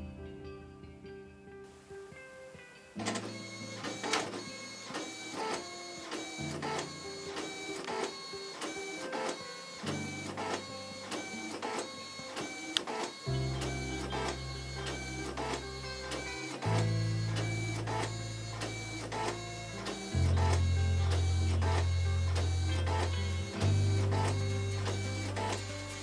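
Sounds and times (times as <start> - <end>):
printer carriage moving: 3.0 - 26.0
steady motor tone: 3.2 - 26.0.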